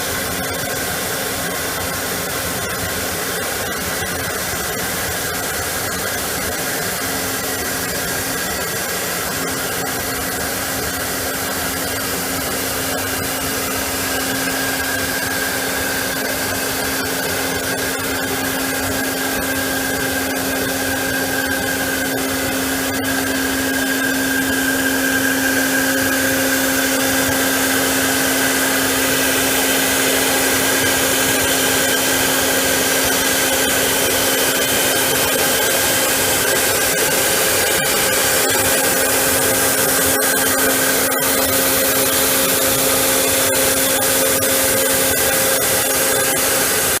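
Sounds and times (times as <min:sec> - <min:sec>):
milling machine motor whine: 0:00.0 - 0:47.0.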